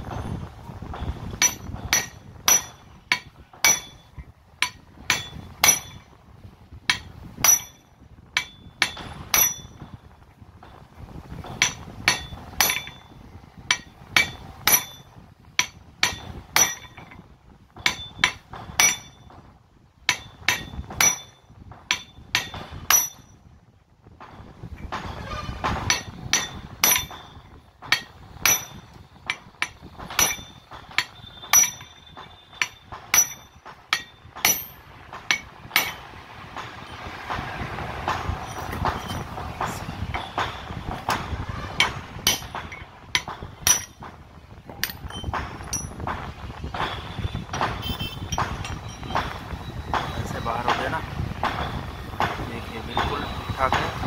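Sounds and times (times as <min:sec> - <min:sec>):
hammer striking steel shaft: 0:00.9 - 0:06.2, 0:06.9 - 0:10.8, 0:11.4 - 0:19.4, 0:20.1 - 0:23.4, 0:24.8 - 0:54.0.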